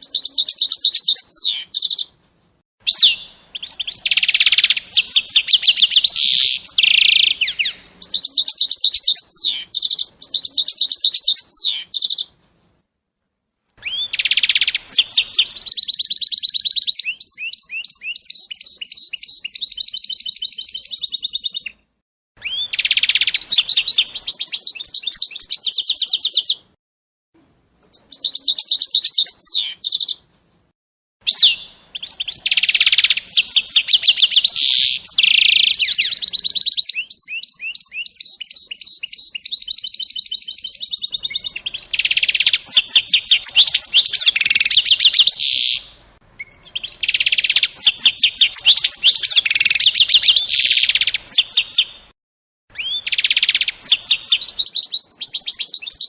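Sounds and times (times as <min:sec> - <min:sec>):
songbird trilling: 0:00.0 - 0:02.1, 0:02.9 - 0:12.3, 0:13.8 - 0:21.8, 0:22.4 - 0:26.6, 0:27.8 - 0:30.2, 0:31.3 - 0:52.0, 0:52.7 - 0:56.0.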